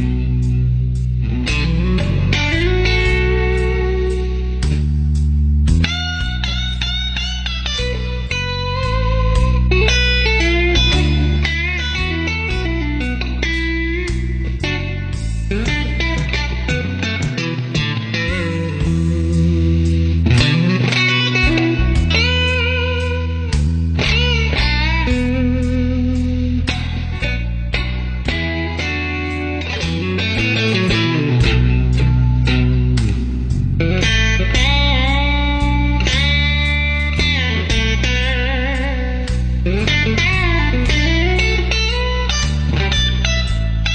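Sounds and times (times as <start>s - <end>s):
bass notes: 0.0s - 43.9s
electric guitar melody: 0.0s - 43.9s.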